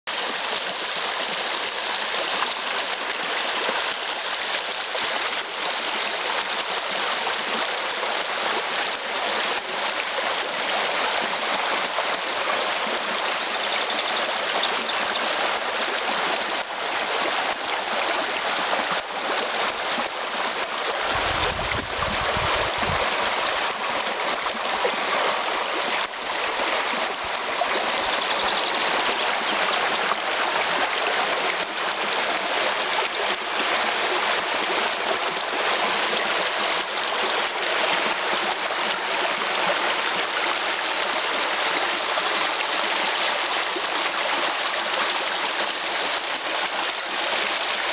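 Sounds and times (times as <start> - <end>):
stream rushing over stones: 0.1 - 47.9.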